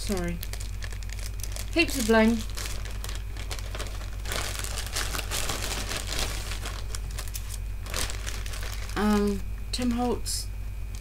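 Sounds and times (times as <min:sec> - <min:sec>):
plastic bags crinkling: 0:00.0 - 0:09.4
low electrical hum: 0:00.0 - 0:11.0.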